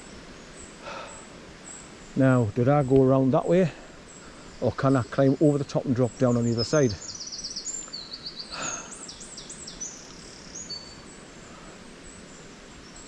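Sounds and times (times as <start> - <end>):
outdoor hiss: 0.0 - 13.0
songbird chirps and trills: 0.0 - 13.0.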